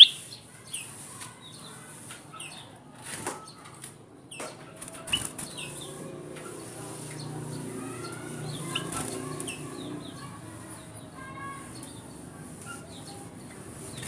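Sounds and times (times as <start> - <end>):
bird chirping: 0.0 - 2.8, 4.3 - 14.0.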